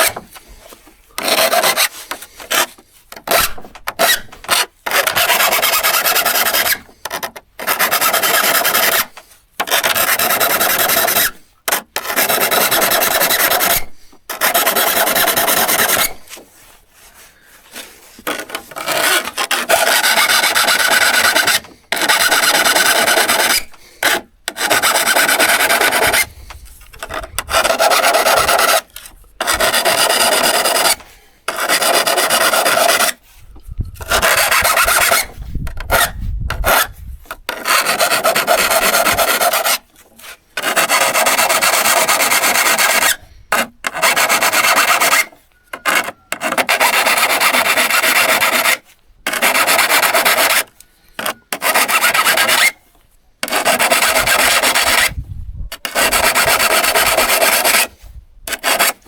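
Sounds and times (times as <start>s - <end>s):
abrasive rasping on saw steel: 0.0s - 55.2s, 55.8s - 59.0s.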